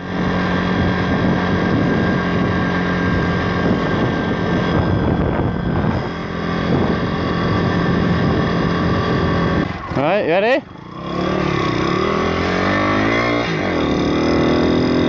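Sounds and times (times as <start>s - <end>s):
pit bike engine running: 0.0s - 15.0s.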